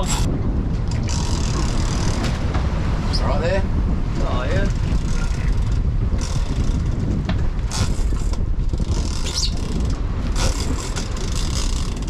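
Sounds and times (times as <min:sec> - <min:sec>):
boat engines rumbling: 0:00.0 - 0:12.0
wind on microphone: 0:00.0 - 0:12.0.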